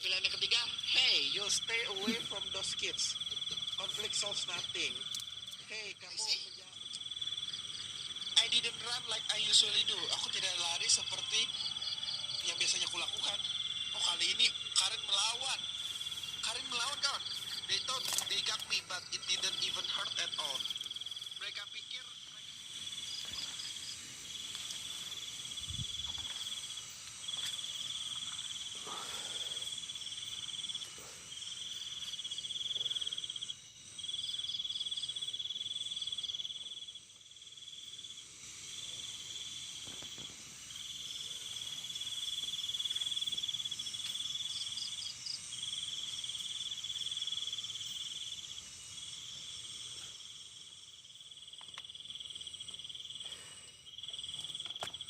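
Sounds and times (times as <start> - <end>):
high continuous insect whir: 0.0 - 55.0
insects trilling: 0.0 - 55.0
quick insect chirps: 0.0 - 55.0.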